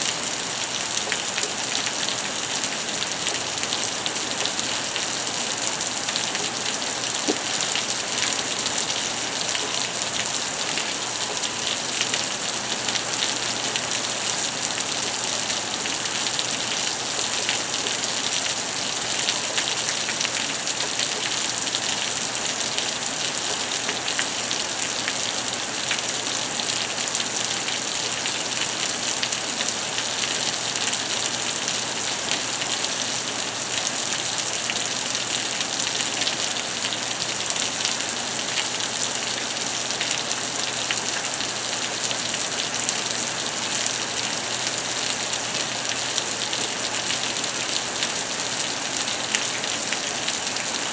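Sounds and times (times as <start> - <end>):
heavy rain hiss: 0.0 - 50.9.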